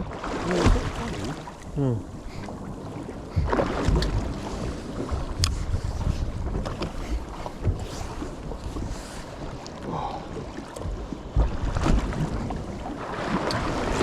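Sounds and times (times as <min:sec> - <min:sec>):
water sloshing around boat: 0:00.0 - 0:14.0
wind buffeting microphone: 0:00.0 - 0:14.0.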